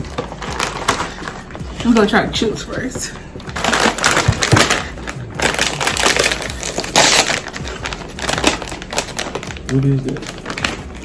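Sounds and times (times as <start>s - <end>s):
bag ripping open: 0.0s - 2.0s, 3.3s - 11.0s
plastic bag crinkling: 0.0s - 11.0s.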